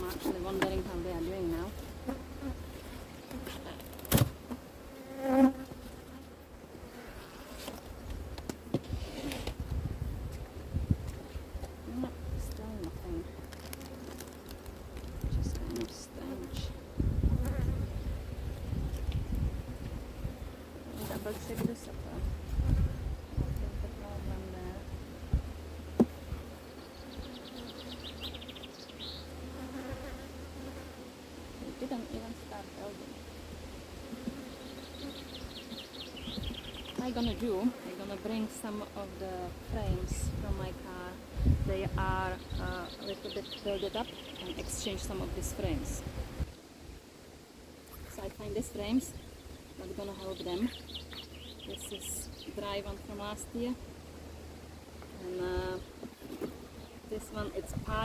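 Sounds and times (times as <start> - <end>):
bees buzzing: 0.0 - 9.6, 11.1 - 58.0.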